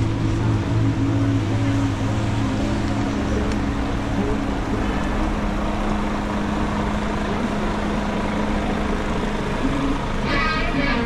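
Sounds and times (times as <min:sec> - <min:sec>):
truck diesel engine idling: 0:00.0 - 0:11.0
wet street traffic: 0:00.0 - 0:11.0.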